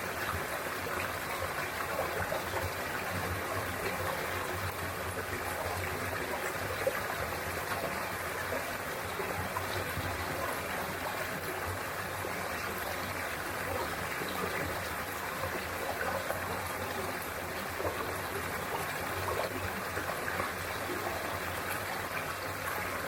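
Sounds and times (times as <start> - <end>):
stream flowing over rocks: 0.0 - 23.0.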